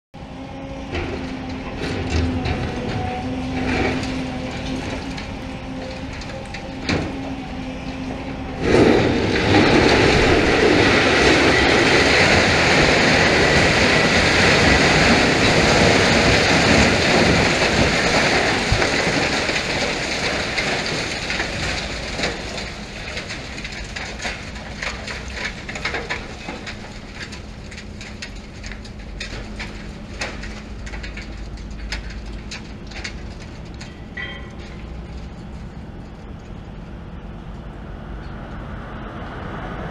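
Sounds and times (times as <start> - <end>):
excavator diesel engine: 0.2 - 39.9
falling rubble clatter: 0.6 - 36.6
building crashing down: 0.8 - 35.7.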